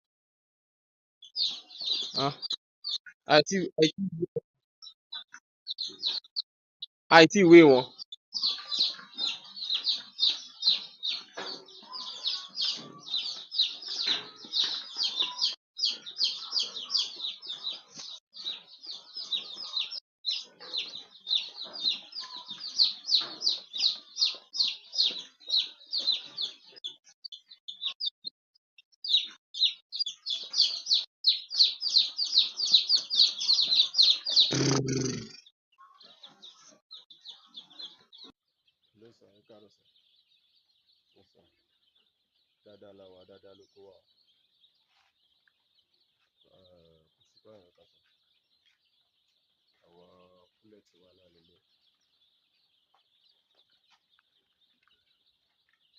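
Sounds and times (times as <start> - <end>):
chicks peeping: 1.2 - 6.4, 7.2 - 28.2, 29.0 - 55.9.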